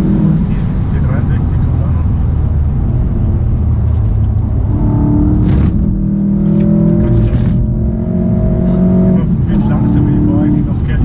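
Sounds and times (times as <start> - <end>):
car engine from inside cabin: 0.0 - 11.0
road noise: 0.0 - 11.0.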